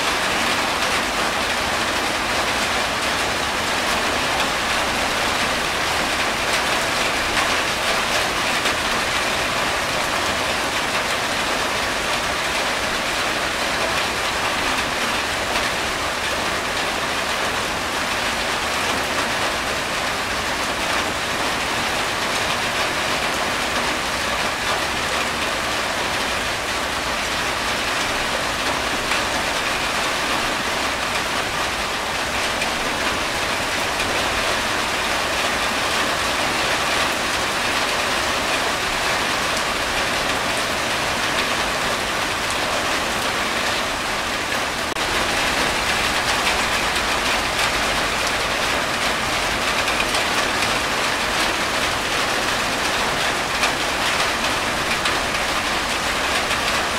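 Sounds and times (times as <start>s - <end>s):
rain on a tin roof: 0.0s - 56.9s
water streaming off roof: 0.0s - 56.9s.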